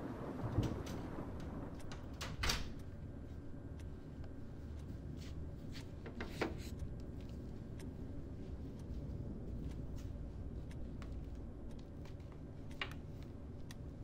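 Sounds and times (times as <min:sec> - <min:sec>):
room rumble: 0:00.0 - 0:14.0.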